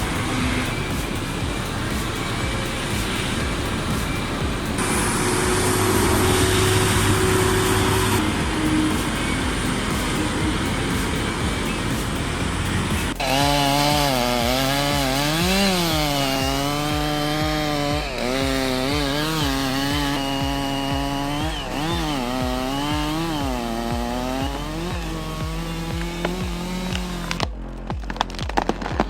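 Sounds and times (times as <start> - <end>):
chainsaw cutting: 0.0 - 29.0
noisy sound: 0.0 - 29.0.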